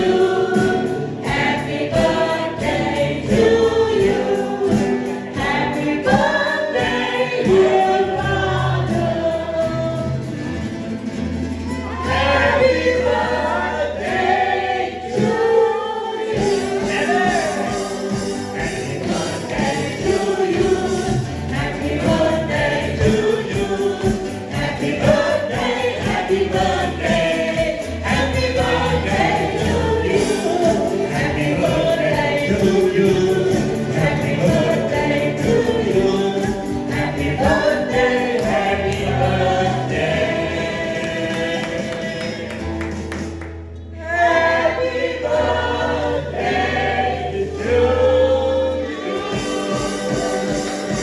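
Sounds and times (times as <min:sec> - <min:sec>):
group singing: 0:00.0 - 0:10.6, 0:11.8 - 0:43.0, 0:43.9 - 0:51.0
guitars: 0:00.0 - 0:51.0.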